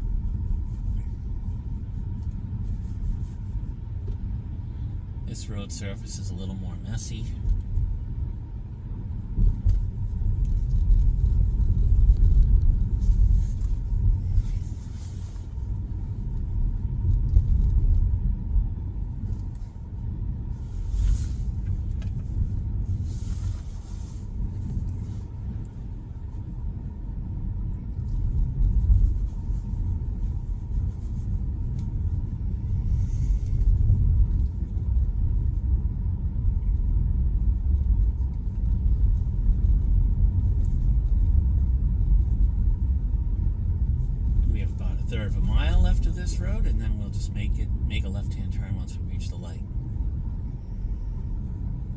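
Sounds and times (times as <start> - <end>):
tyre and road rumble: 7.0 - 51.9.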